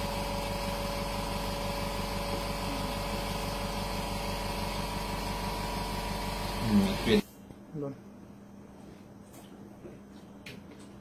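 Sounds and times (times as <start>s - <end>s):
machine hum with low pulsing: 0.0s - 11.0s.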